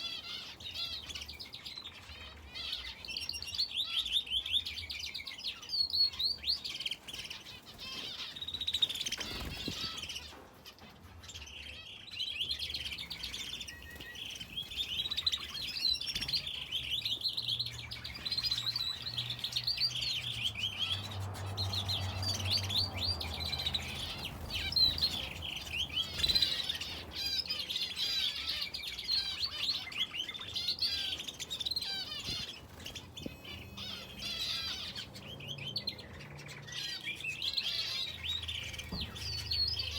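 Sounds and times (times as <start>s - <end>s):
finches and canary chirping: 0.0s - 39.9s.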